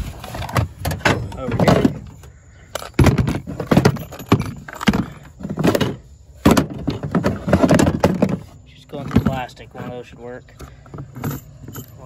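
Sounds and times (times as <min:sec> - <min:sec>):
metal tools clattering: 0:00.2 - 0:12.0.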